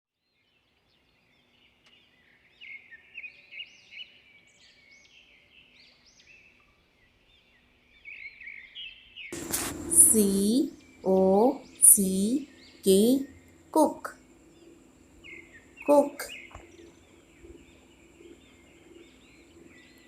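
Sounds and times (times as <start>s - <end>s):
small songbirds chirping: 0.2s - 20.0s.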